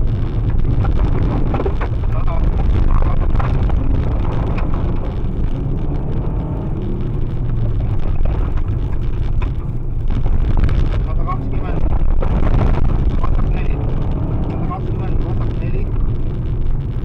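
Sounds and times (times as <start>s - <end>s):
car engine running hard: 0.0s - 17.0s
gravel pinging against underbody: 0.0s - 17.0s.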